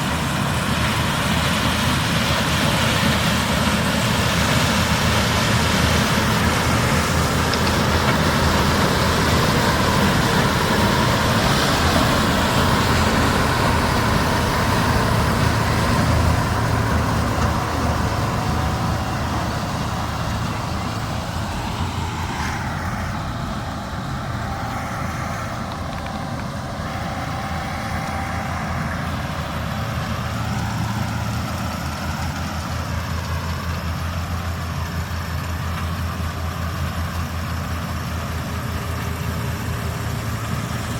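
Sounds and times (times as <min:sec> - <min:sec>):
diesel farm machinery running: 0:00.0 - 0:40.9.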